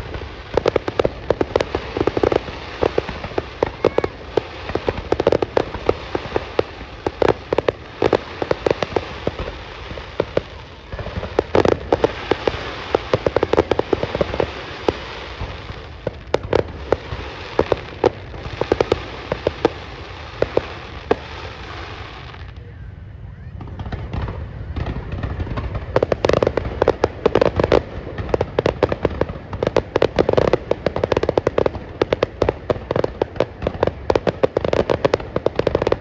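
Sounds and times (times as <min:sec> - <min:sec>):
fireworks bangs: 0:00.0 - 0:36.0
fireworks crackle: 0:00.0 - 0:36.0.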